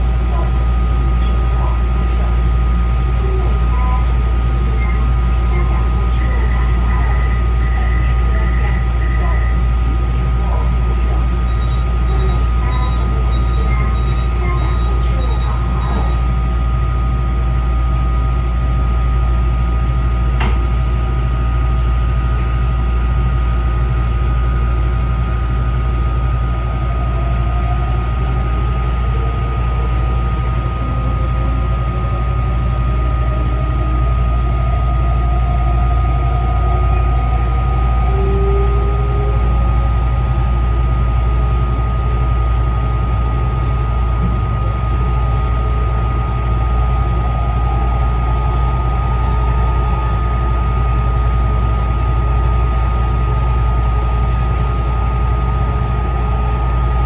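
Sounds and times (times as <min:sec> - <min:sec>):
high train whine: 0:00.0 - 0:57.0
train rumble: 0:00.0 - 0:57.0.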